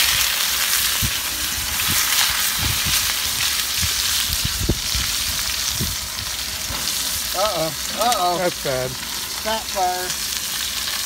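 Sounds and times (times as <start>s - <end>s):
steaks sizzling in a skillet: 0.0s - 11.0s.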